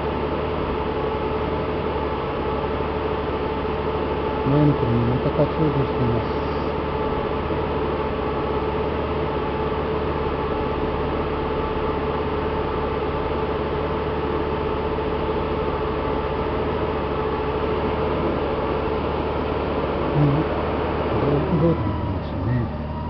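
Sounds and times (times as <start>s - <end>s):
motorcycle engine running steadily: 0.0s - 23.0s.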